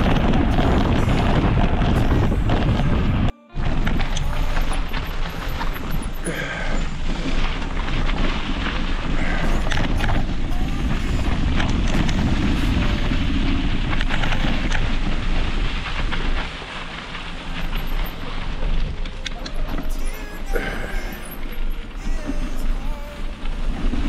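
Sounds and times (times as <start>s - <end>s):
bike rattling and clicking: 0.0s - 24.0s
tyres crunching over gravel: 0.0s - 24.0s
wind buffeting microphone: 0.0s - 24.0s.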